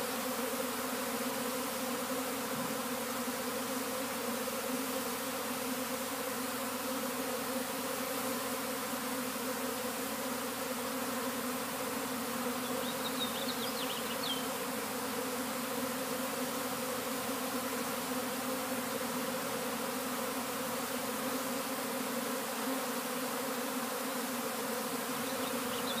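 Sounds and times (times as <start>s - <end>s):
bee swarm buzzing: 0.0s - 26.0s.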